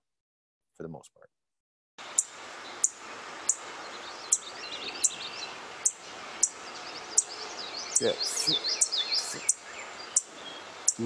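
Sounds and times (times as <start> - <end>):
faint calls of other birds: 2.0 - 11.0
insects: 2.0 - 11.0
sparrow high tsit calls: 2.1 - 11.0.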